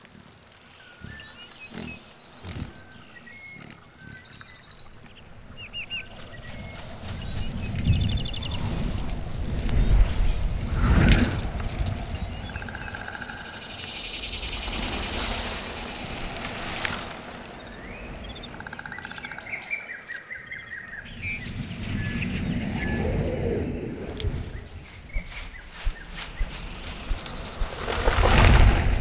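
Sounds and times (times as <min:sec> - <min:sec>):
wind-like hiss: 0:00.0 - 0:29.0
birds chirping in trills: 0:00.3 - 0:29.0.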